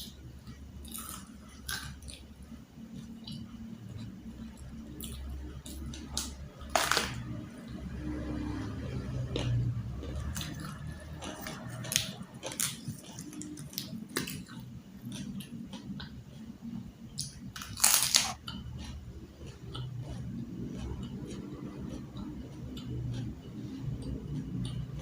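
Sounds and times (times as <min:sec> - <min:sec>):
chewing crisp fried food: 0:00.0 - 0:25.0.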